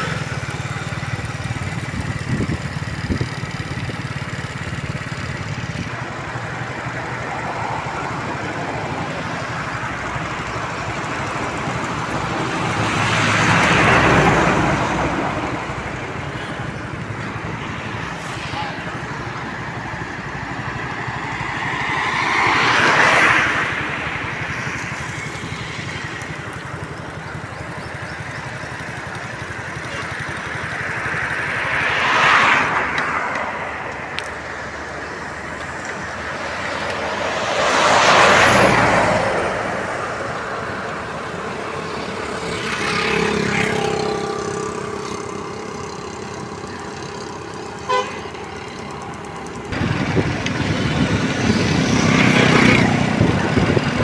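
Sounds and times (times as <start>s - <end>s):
road vehicles passing: 0.0s - 54.0s.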